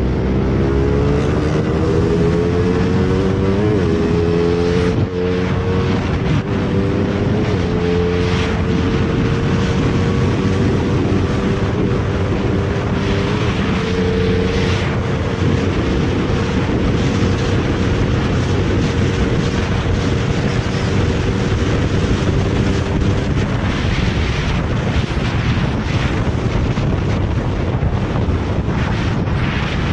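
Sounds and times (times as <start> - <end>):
motorcycle engine running: 0.0 - 29.9
wind noise on microphone: 0.0 - 29.9.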